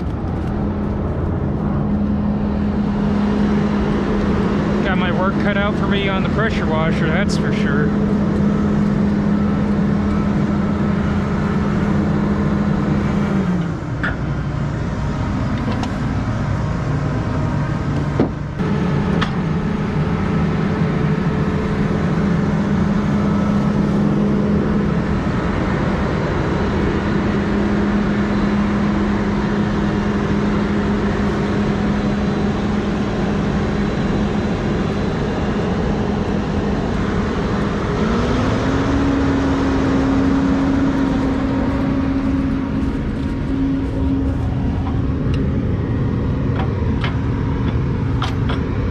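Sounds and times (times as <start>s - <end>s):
combine harvester droning: 0.0s - 48.9s.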